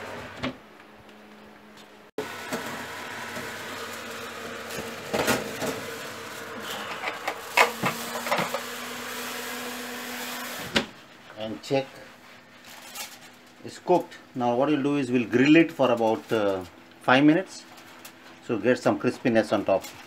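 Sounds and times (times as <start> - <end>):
oven fan humming: 0.0 - 20.0.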